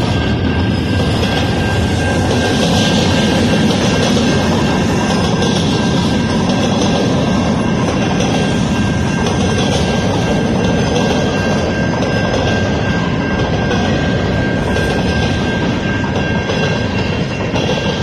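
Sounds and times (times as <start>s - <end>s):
constant high tone: 0.0s - 18.0s
train wheels rumbling on rail: 0.0s - 18.0s.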